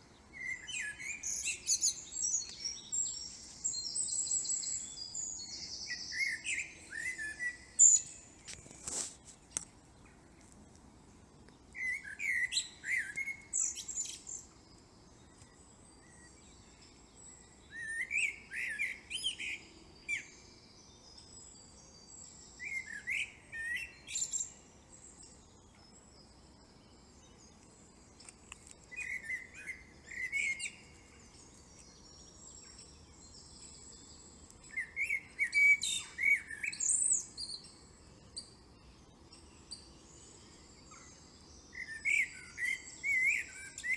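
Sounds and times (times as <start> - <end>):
faint steady hiss: 0.0 - 43.9
songbird singing: 0.0 - 43.9.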